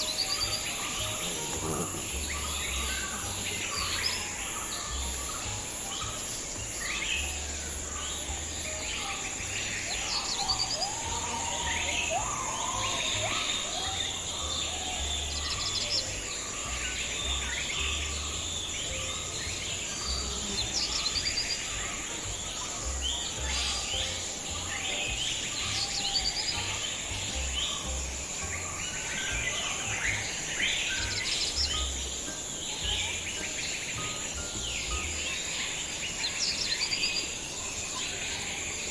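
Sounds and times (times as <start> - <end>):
birds chirping: 0.0 - 38.9
high-pitched insect drone: 0.0 - 38.9.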